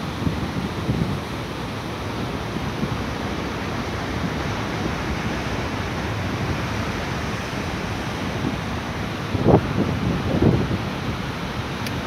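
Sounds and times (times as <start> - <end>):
surf breaking on rocky shore: 0.0 - 12.0.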